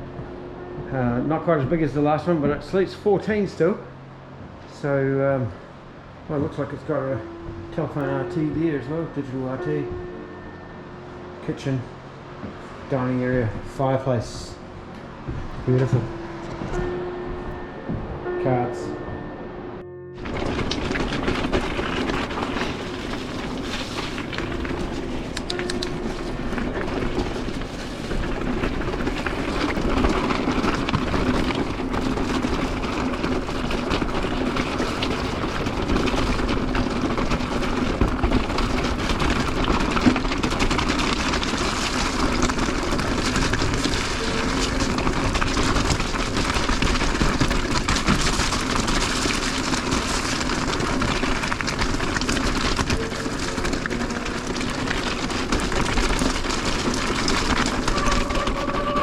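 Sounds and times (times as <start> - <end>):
bike tyres rumbling on gravel: 0.0 - 19.4, 20.2 - 59.0
bike rattling: 0.0 - 59.0
wind noise on microphone: 5.6 - 59.0.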